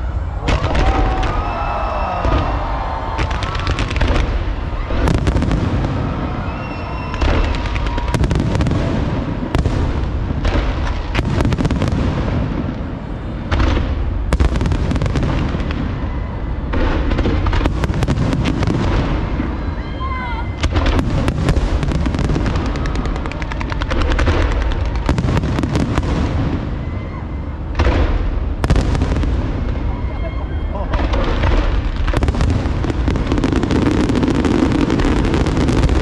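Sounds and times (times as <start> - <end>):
fireworks booms and crackling: 0.0 - 36.0.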